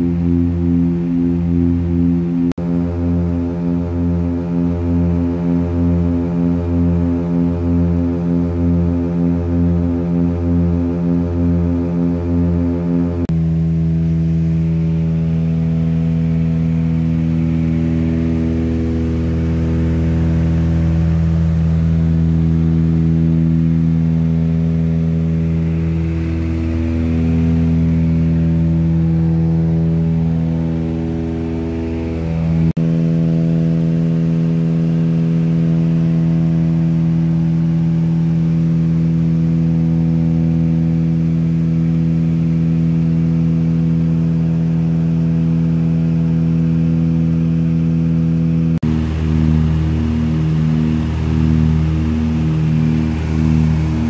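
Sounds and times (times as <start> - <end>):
propeller plane engine drone: 0.0 - 54.0.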